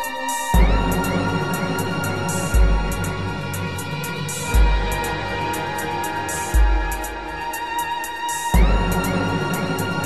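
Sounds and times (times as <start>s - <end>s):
electronic music sustained tones: 0.0s - 10.0s.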